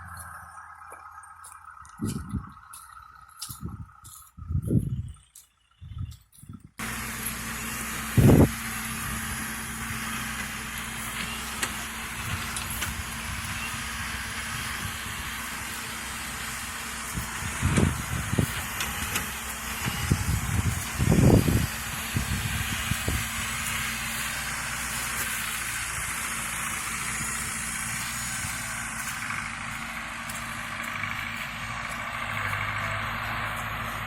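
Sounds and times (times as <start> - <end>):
heavy vehicle engine idling: 0.0 - 34.0.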